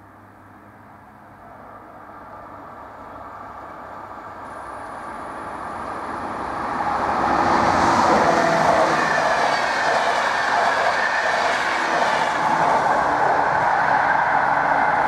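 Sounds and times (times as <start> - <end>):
train rumble approaching: 1.0 - 15.0.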